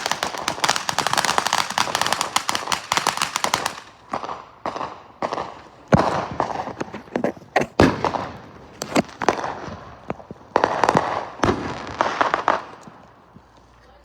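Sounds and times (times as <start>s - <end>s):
fireworks banging and crackling: 0.0s - 14.0s.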